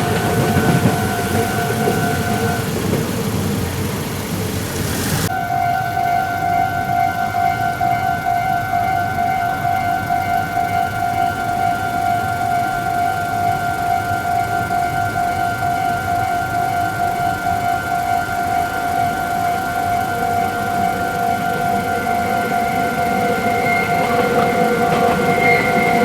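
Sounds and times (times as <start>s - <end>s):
approaching train running: 0.0s - 26.0s
level-crossing warning bell: 0.0s - 26.0s.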